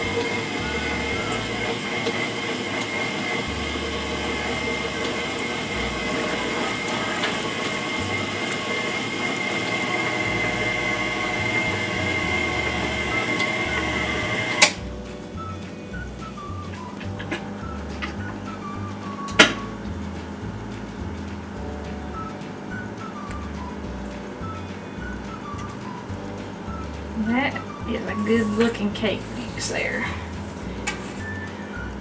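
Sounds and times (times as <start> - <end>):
stand mixer motor humming: 0.0 - 32.0.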